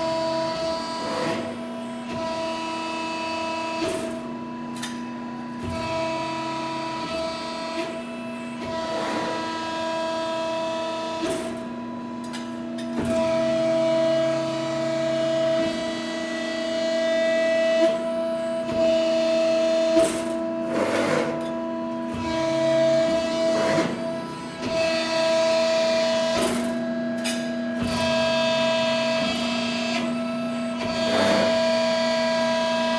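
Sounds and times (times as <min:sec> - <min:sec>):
hydraulic press brake whine: 0:00.0 - 0:32.9.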